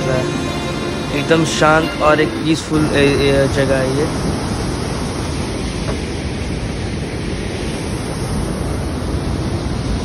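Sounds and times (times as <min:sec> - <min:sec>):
river rushing over boulders: 0:00.0 - 0:10.0.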